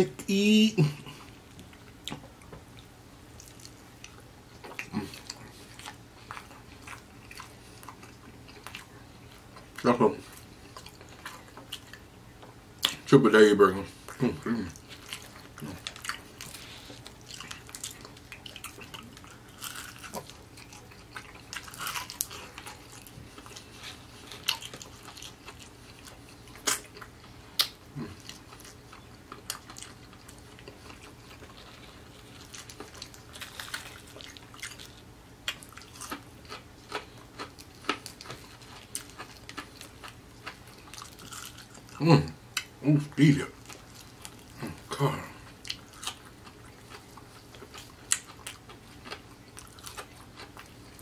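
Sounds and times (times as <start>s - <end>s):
chewing crispy fried chicken: 0.3s - 51.0s.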